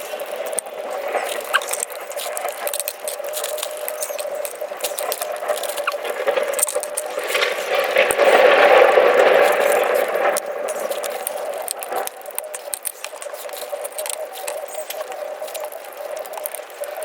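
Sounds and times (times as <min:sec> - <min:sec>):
close-miked eating sounds: 0:00.0 - 0:17.0.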